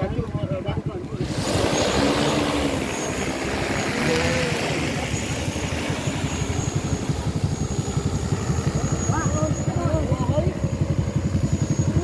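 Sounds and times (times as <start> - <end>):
drone rotors droning: 1.0 - 12.0.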